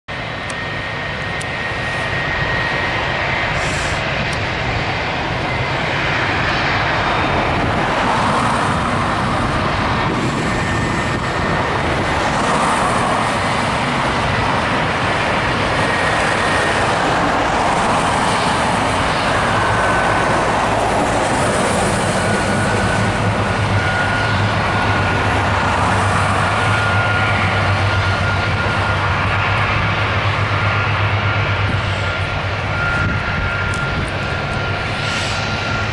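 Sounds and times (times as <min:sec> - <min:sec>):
jet engines running: 0:00.1 - 0:35.9.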